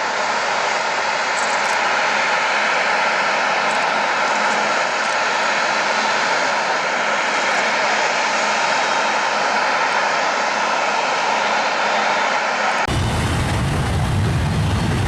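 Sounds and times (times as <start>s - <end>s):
airplane engines running: 0.0s - 15.0s.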